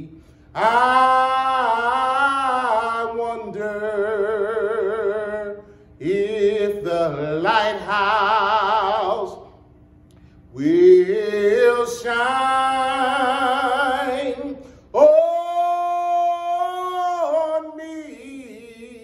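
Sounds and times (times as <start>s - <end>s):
man singing unaccompanied: 0.0s - 9.4s, 10.6s - 19.0s.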